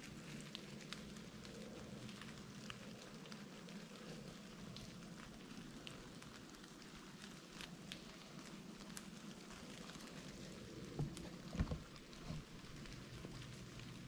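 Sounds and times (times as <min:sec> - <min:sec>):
light rain on leaves: 0:00.0 - 0:14.0.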